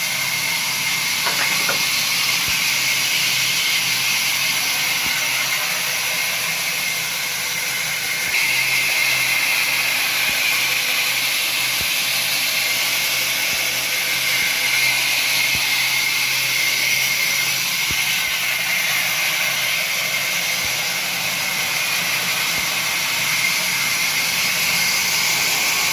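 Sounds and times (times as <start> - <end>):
woodworking machine high hiss: 0.0 - 25.9.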